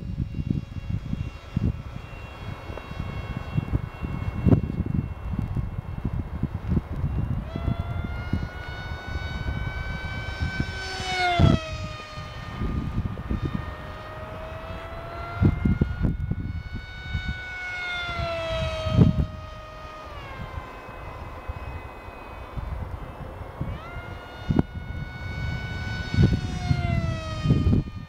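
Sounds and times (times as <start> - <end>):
low gusty rumble: 0.0 - 28.0
model plane propeller whining: 0.0 - 28.0.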